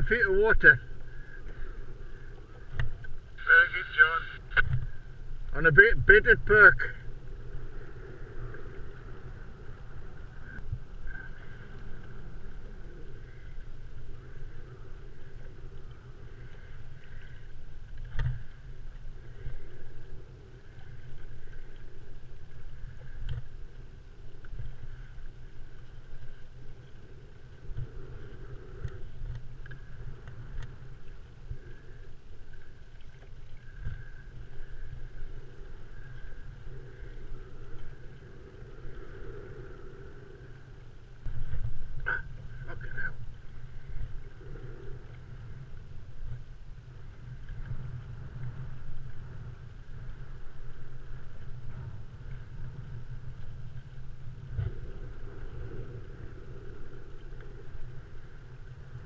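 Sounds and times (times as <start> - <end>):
small waves lapping against hull: 0.0 - 59.0
wind rumble on microphone: 0.0 - 59.0.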